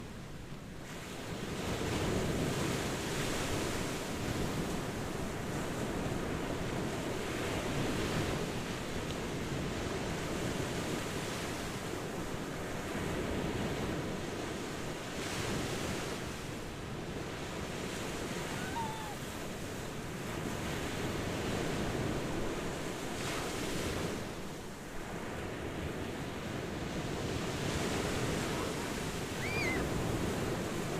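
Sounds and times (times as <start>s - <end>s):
ocean surf washing: 1.2s - 30.9s.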